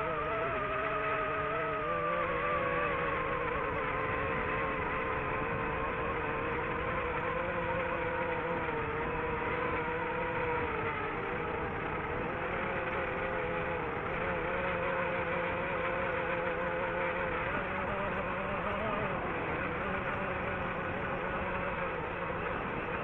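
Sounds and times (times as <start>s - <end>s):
drone propellers whirring: 0.0s - 23.0s.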